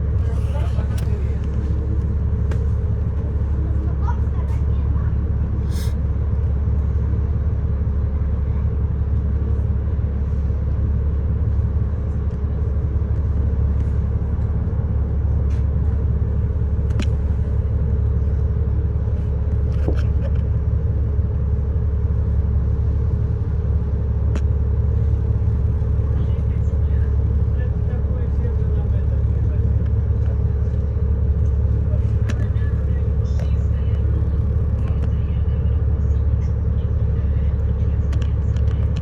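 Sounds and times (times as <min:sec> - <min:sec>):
bus engine and road rumble: 0:00.0 - 0:39.0
constant hum: 0:00.0 - 0:39.0.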